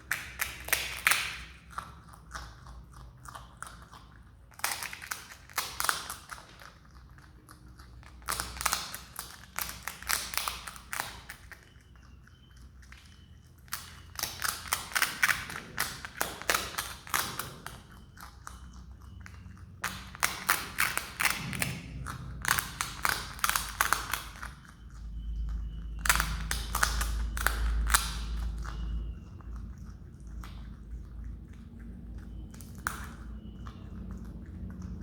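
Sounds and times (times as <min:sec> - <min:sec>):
animal crunching rice cake: 0:00.0 - 0:35.0.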